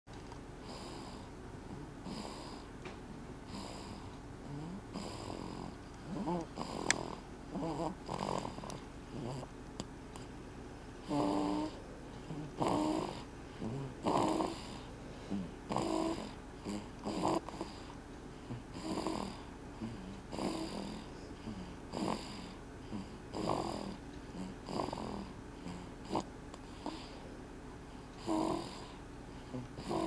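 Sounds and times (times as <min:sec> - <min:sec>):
baby snoring: 0:00.6 - 0:02.7, 0:03.5 - 0:09.6, 0:11.0 - 0:27.3, 0:28.2 - 0:30.0.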